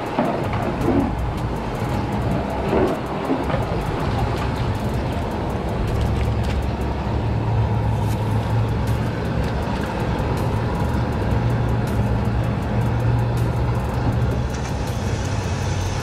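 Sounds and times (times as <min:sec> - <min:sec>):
water churning and bubbling: 0:00.0 - 0:16.0.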